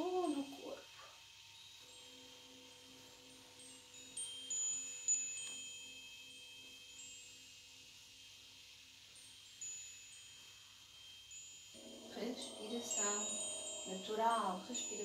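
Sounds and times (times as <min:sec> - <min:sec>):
chimes ringing softly: 0:00.0 - 0:15.0.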